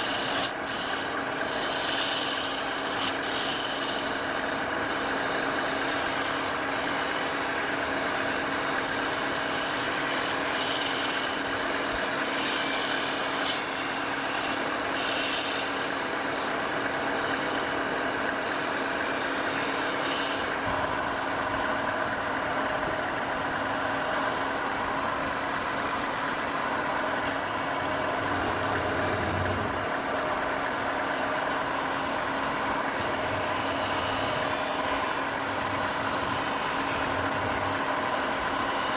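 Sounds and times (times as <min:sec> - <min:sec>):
tool scraping wood: 0:00.0 - 0:24.8, 0:27.1 - 0:38.9
lathe motor hum: 0:00.0 - 0:38.9.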